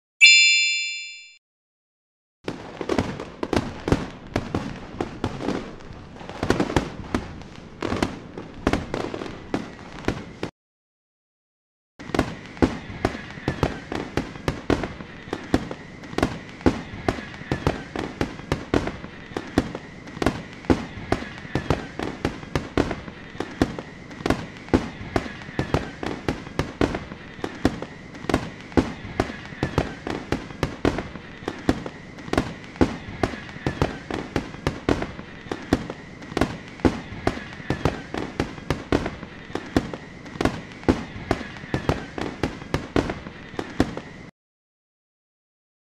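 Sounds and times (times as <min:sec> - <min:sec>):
fireworks bangs and pops: 0:02.4 - 0:10.5, 0:12.0 - 0:44.3.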